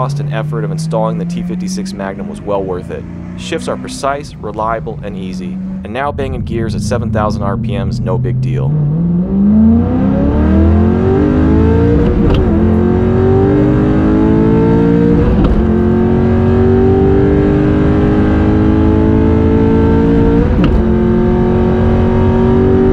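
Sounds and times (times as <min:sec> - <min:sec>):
engine revving through gears: 0:00.0 - 0:22.9.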